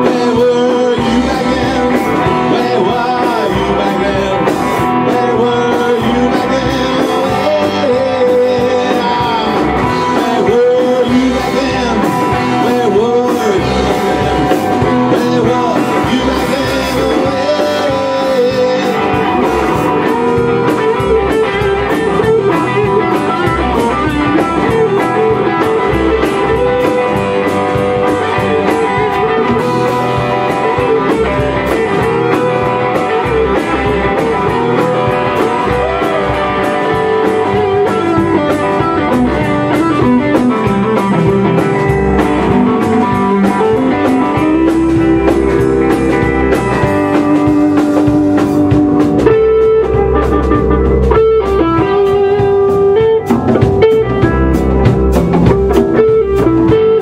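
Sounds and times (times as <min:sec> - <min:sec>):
bending lead guitar notes: 0:00.0 - 0:57.0
rock band playing live: 0:00.0 - 0:57.0.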